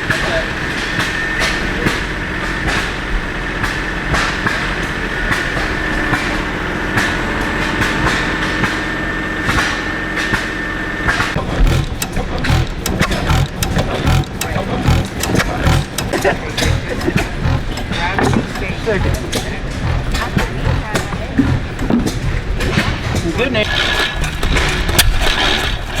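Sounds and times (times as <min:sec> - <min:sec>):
low thumps and sharp knocks: 0:00.0 - 0:26.0
machinery clattering: 0:00.0 - 0:26.0
machinery whine: 0:00.0 - 0:26.0.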